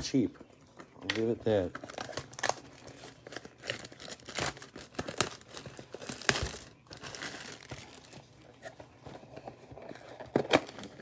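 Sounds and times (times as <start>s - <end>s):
packaging crinkling and tearing: 1.2s - 8.8s, 9.4s - 11.0s.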